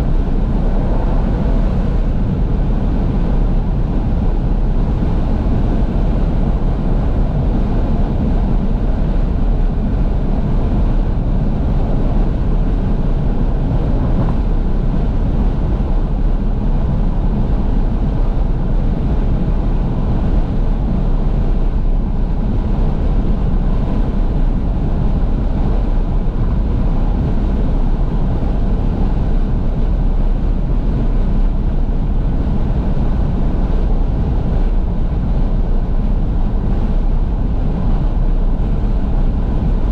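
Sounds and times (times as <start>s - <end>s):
tyres and engine rumble: 0.0s - 39.9s
wind rushing through car windows: 0.0s - 39.9s.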